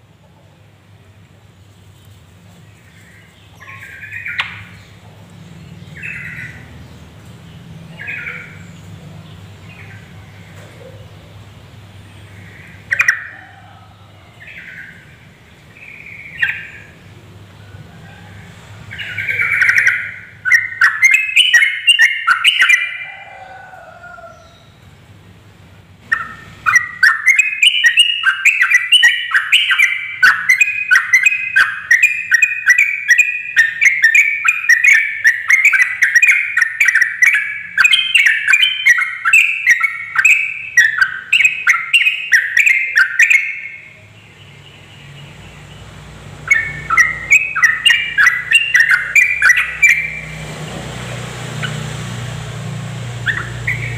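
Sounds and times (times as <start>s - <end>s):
bulbul chattering song: 2.3s - 23.5s, 24.4s - 53.9s.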